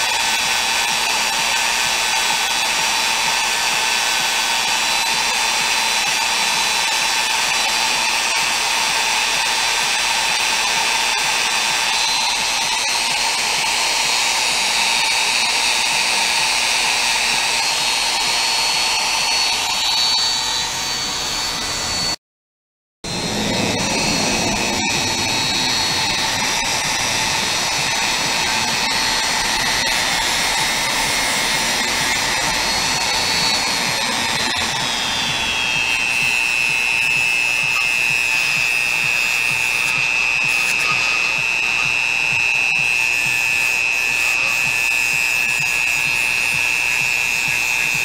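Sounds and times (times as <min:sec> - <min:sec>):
rotary tool whining: 0:00.0 - 0:22.2, 0:23.1 - 0:48.0.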